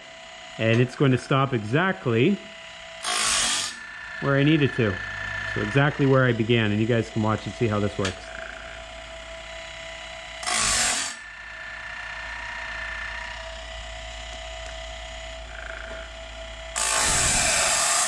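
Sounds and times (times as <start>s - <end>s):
grinding wheel grinding blade: 0.0s - 18.0s
sharpener motor humming: 0.6s - 18.0s.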